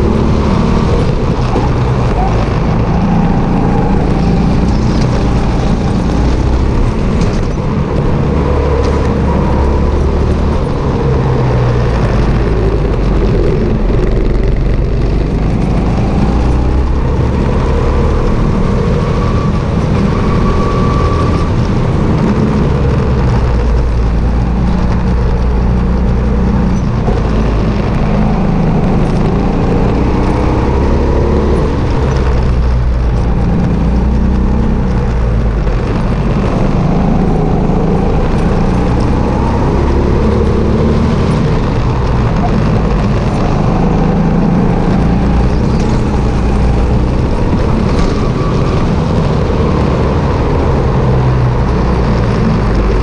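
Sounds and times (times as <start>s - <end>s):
kart engine at racing speed: 0.0s - 53.0s
low chassis vibration rumble: 0.0s - 53.0s.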